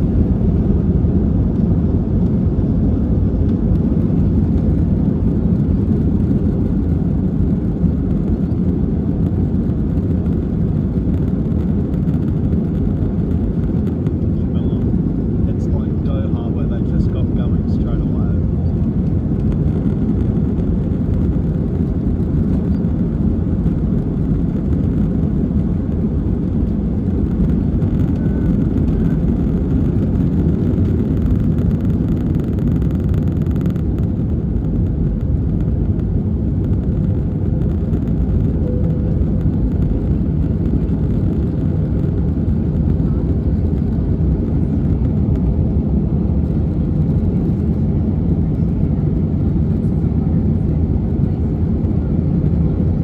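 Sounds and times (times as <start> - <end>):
jet engine cabin rumble: 0.0 - 53.0.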